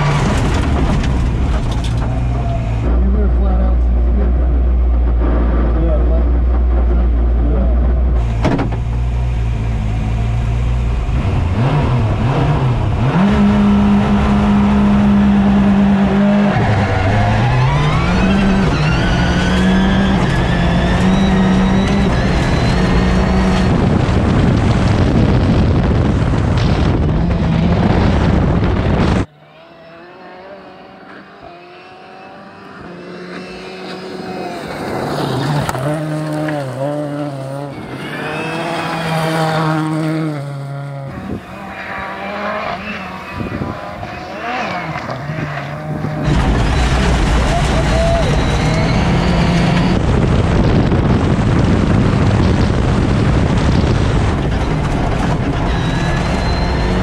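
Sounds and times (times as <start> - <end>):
gravel rumbling under tyres: 0.0 - 29.8, 33.2 - 57.0
rally car engine revving: 0.0 - 57.0.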